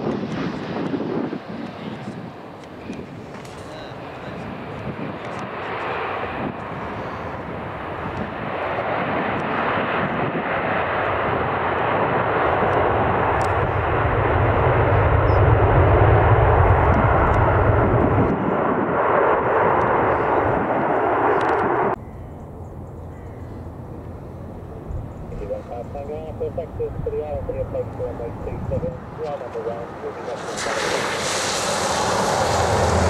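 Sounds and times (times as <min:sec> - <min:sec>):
jet engines roaring: 0:00.0 - 0:22.9, 0:23.5 - 0:33.0.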